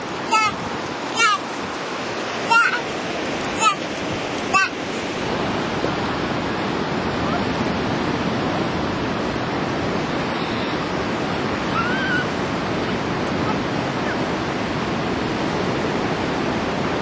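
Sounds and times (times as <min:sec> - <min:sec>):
waves breaking: 0:00.0 - 0:17.0.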